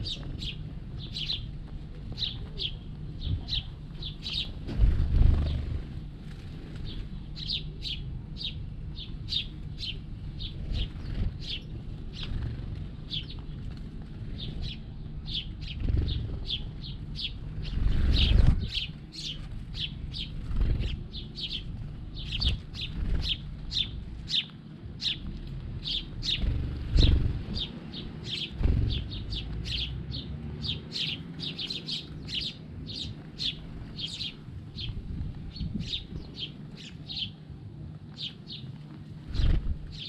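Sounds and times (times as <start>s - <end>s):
sparrows chirping: 0.0s - 40.0s.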